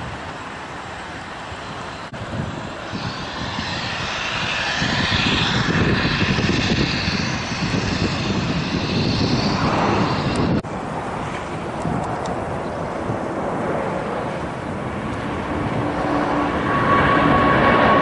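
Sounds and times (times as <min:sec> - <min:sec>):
jet engines whining and rumbling: 0:00.0 - 0:18.0.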